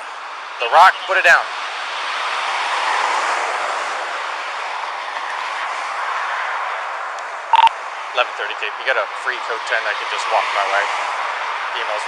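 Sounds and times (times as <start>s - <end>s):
road traffic rushing by: 0.0s - 12.0s.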